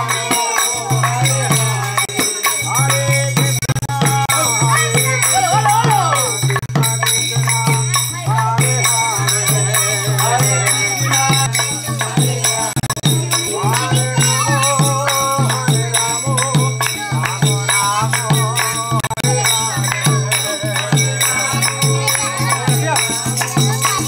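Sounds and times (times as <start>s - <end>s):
jingling hand percussion: 0.0s - 24.0s
voices singing: 0.0s - 24.0s.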